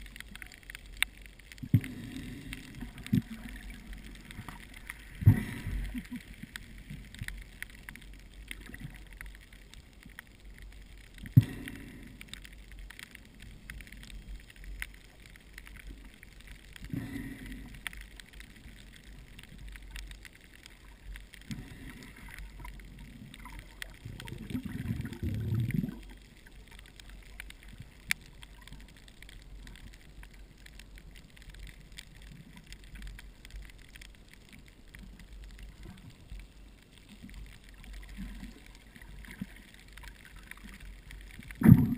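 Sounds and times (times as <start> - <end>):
faint crackling clicks: 0.0 - 41.9
muffled water swishes: 0.0 - 41.9
underwater low rumble: 0.0 - 41.9.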